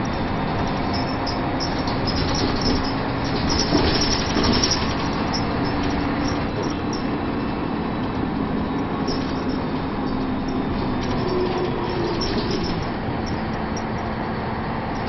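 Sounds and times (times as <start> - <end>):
bus engine and road noise: 0.0 - 15.0
bus panels rattling: 0.0 - 15.0.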